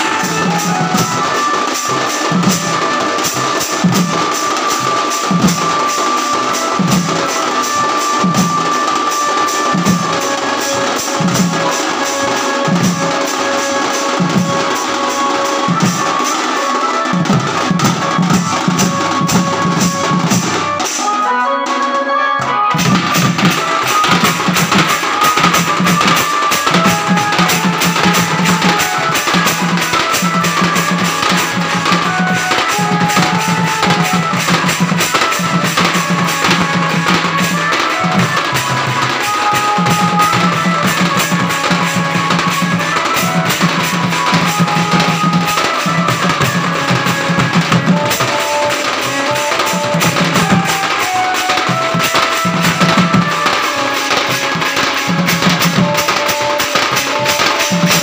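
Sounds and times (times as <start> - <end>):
large frame drum: 0.0 - 20.9, 22.7 - 58.0
side drum fast strokes: 0.0 - 21.2, 22.7 - 58.0
high held-note melody: 0.0 - 58.0.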